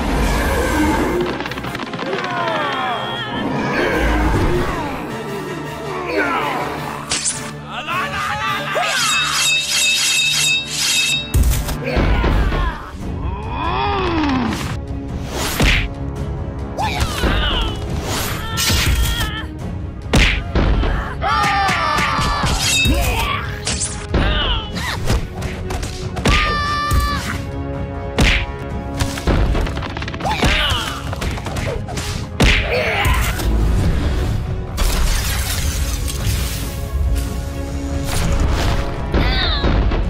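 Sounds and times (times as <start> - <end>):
background music: 0.0 - 40.0.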